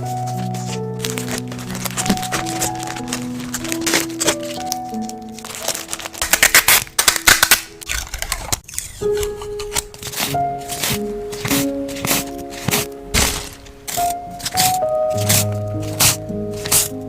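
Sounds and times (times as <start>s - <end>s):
instrumental background music: 0.0s - 17.0s
packaging crinkling and clicking: 0.0s - 17.0s.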